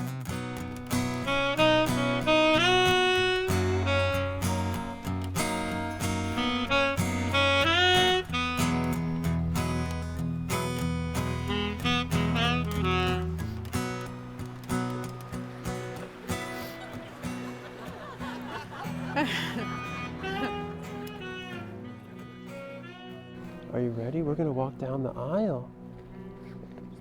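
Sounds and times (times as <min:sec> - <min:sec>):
saxophone-like melody: 0:00.0 - 0:24.3
plucked guitar chords: 0:00.0 - 0:27.0.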